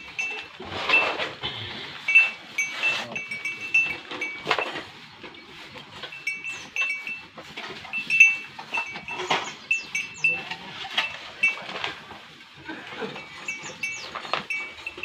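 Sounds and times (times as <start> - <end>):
livestock bells clinking: 0.0 - 15.0.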